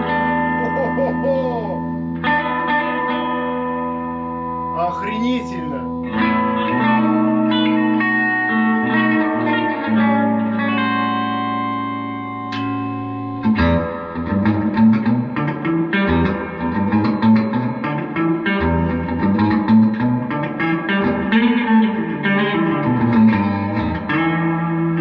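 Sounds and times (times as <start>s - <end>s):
electric guitar with spring reverb: 0.0s - 25.0s.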